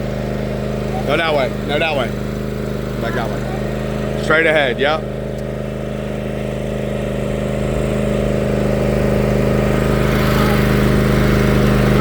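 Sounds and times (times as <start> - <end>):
riding lawn mower engine running: 0.0 - 12.0.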